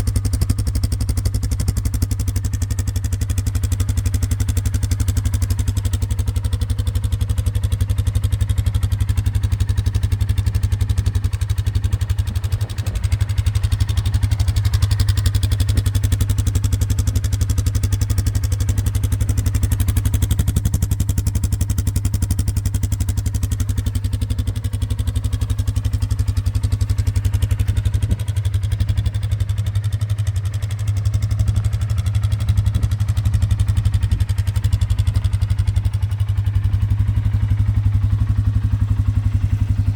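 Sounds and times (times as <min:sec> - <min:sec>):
atv engine idling: 0:00.0 - 0:39.9.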